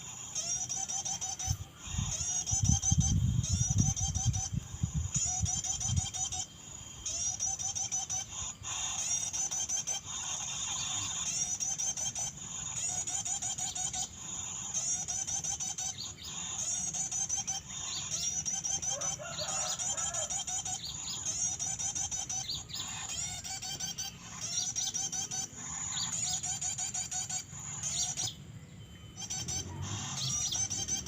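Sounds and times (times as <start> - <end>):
songbirds chirping and trilling: 0.0 - 31.0.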